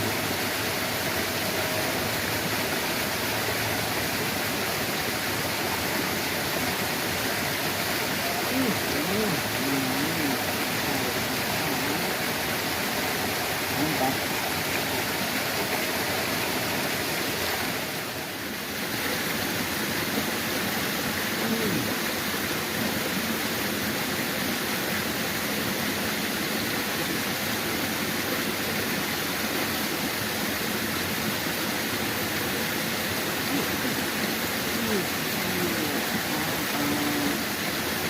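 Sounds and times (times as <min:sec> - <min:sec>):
flowing water rushing: 0:00.0 - 0:38.0.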